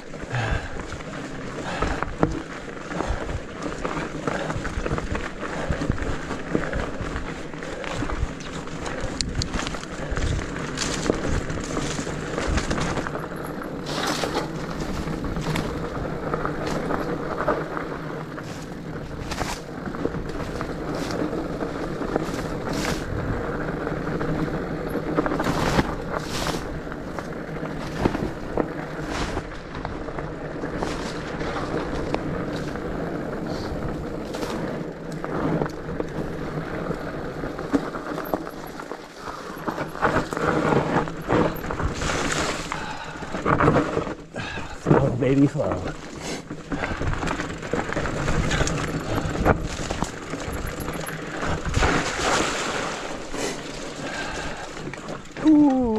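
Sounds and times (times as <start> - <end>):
bike knocking and rattling: 0.0 - 55.9
bike tyres rolling on dirt: 0.0 - 55.9.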